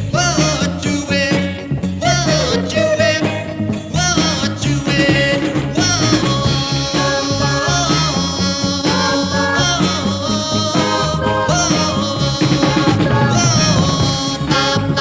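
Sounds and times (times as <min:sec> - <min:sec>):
instrumental pop band music: 0:00.0 - 0:15.0.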